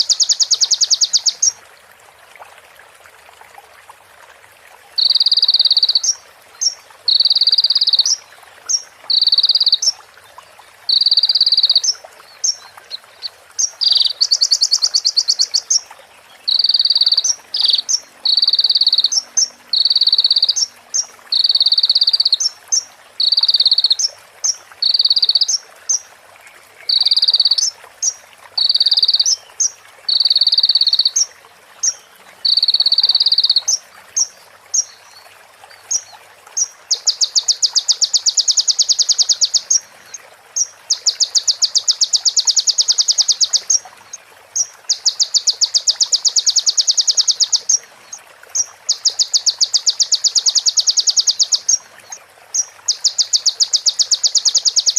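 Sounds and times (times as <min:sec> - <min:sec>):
sunbird singing buzzy trills: 0:00.0 - 0:01.6, 0:05.0 - 0:10.0, 0:10.9 - 0:26.0, 0:26.8 - 0:35.2, 0:35.9 - 0:43.8, 0:44.6 - 0:47.8, 0:48.6 - 0:51.8, 0:52.5 - 0:54.9.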